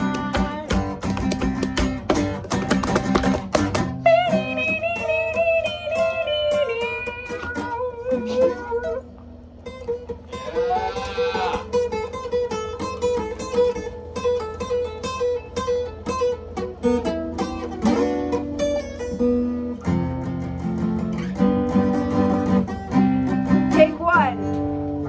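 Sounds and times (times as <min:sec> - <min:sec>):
guitar playing: 0:00.0 - 0:25.0.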